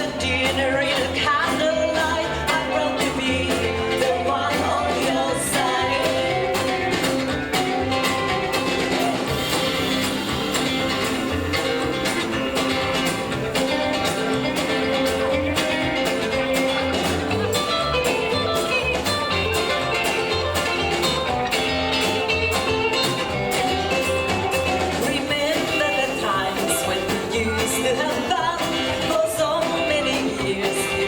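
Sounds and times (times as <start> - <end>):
bass line: 0.0 - 31.0
electric guitar lead: 0.0 - 31.0
drum beat: 2.5 - 31.0.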